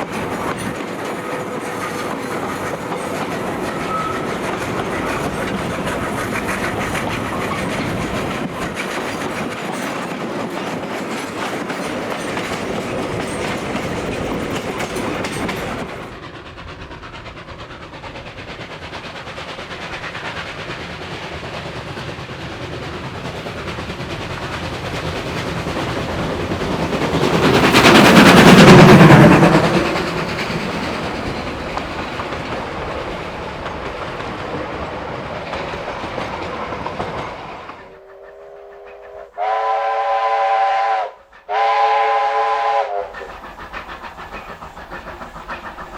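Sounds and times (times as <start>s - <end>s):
wheels clicking over rail joints: 0.0s - 37.9s, 43.1s - 45.9s
steam train running on rails: 0.0s - 45.9s.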